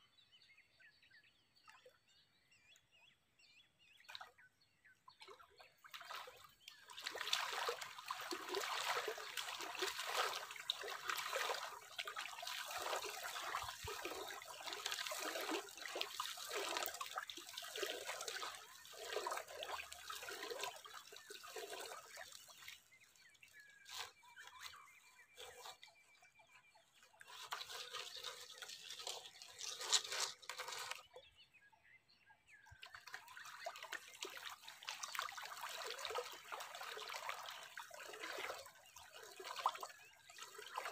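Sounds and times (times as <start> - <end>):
water trickling and splashing: 5.0 - 31.3, 32.7 - 40.9.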